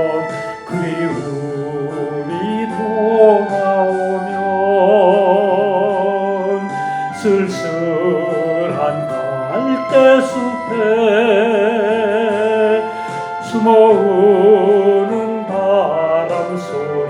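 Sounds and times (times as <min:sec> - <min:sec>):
instrumental accompaniment: 0:00.0 - 0:17.0
person singing slow ballad: 0:00.0 - 0:17.0.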